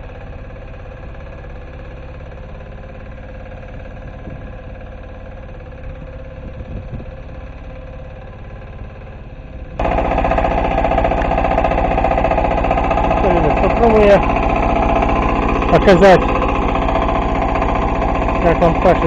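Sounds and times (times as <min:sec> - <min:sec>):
diesel tractor engine running: 0:00.0 - 0:19.0.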